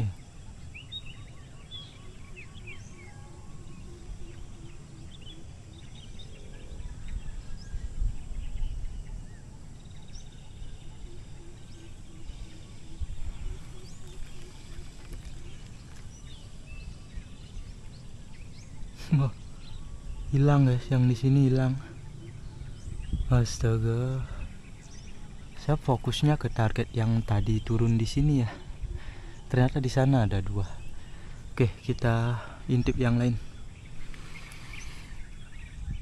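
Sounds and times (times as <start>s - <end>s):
birds chirping and calling: 0.0s - 36.0s
wind rumble on microphone: 0.0s - 36.0s.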